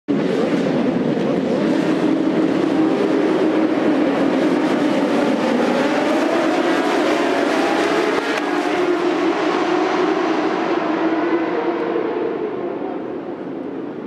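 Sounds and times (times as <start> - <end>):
racing motorcycles at high revs: 0.1 - 12.4.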